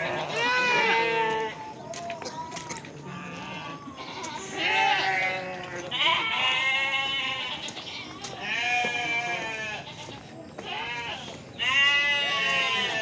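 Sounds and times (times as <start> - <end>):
livestock bleating: 0.0 - 1.6, 3.0 - 13.0.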